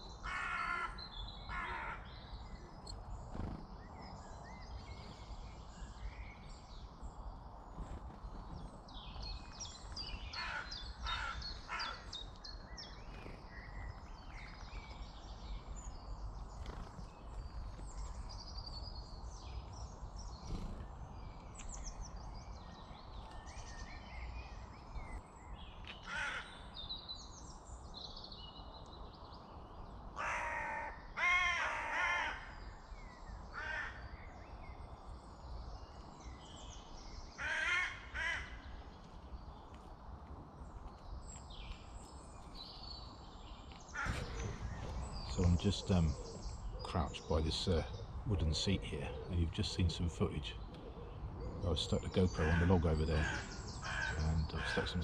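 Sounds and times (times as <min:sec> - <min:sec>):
birds calling and singing: 0:00.0 - 0:55.0.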